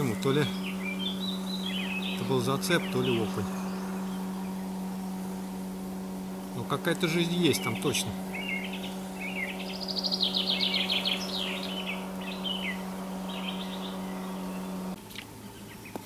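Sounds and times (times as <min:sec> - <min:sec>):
songbirds singing: 0:00.0 - 0:16.0
steady low hum: 0:00.0 - 0:16.0.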